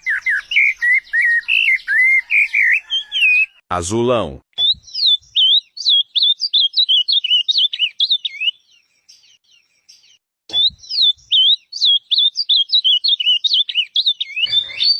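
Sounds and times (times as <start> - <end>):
bird singing whistled notes: 0.0 - 3.6, 4.6 - 14.9.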